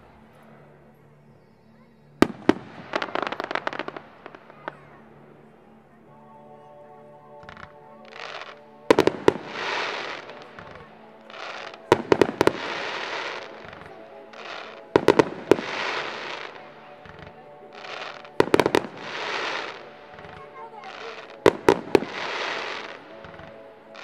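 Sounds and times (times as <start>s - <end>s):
firework crackling: 2.2s - 5.0s, 7.4s - 24.0s.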